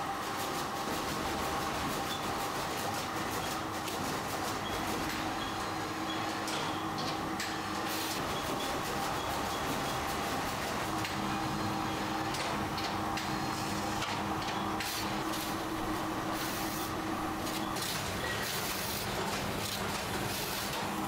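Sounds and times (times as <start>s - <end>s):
machine hum: 2.8s - 21.0s.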